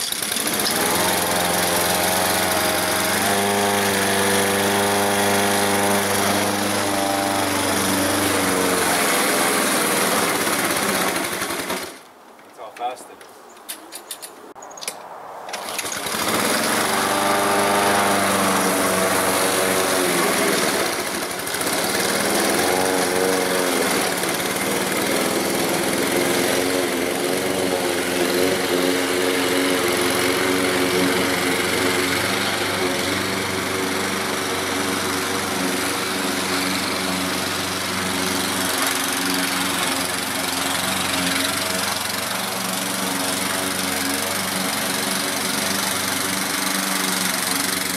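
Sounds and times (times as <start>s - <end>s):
lawn mower running: 0.0s - 12.0s, 15.5s - 47.9s.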